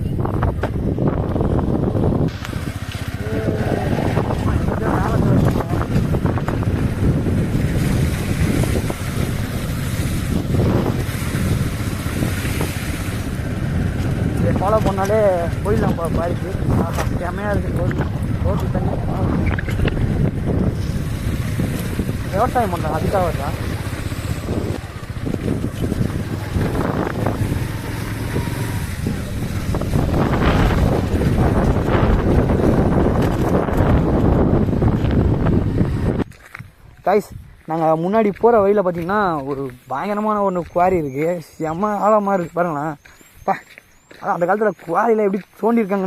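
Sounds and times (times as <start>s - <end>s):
moving vehicle: 0.0s - 46.0s
wind buffeting microphone: 0.0s - 46.0s.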